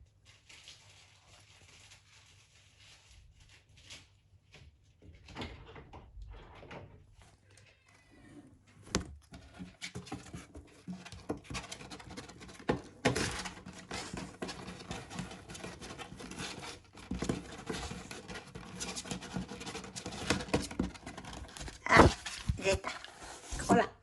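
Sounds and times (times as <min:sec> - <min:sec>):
kitten rustling and scratching: 0:00.0 - 0:24.0.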